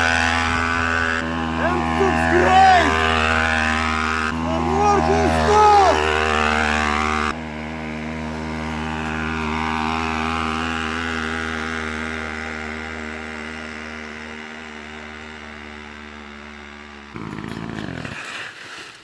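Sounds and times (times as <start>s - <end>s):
two-stroke engine running: 0.0s - 18.4s.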